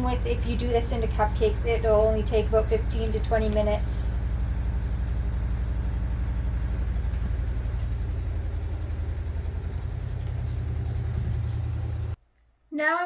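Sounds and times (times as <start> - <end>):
low pulsing mechanical hum: 0.0 - 12.2.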